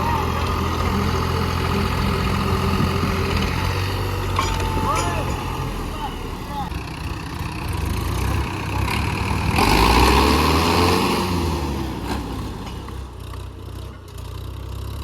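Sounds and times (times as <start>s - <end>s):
diesel tractor engines under load: 0.0s - 15.0s.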